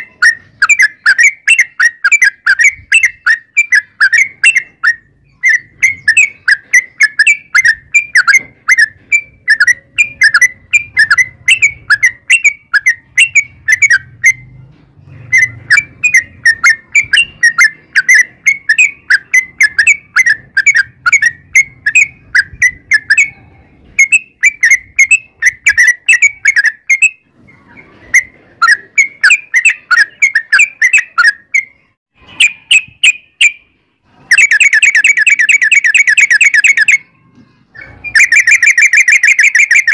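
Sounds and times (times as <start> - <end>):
bulbul chirping: 0.0 - 27.3, 28.1 - 33.7, 34.3 - 39.9.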